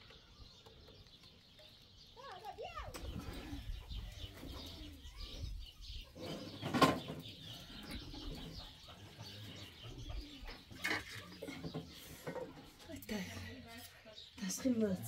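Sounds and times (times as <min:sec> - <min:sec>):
birds chirping and cooing: 0:00.0 - 0:15.0.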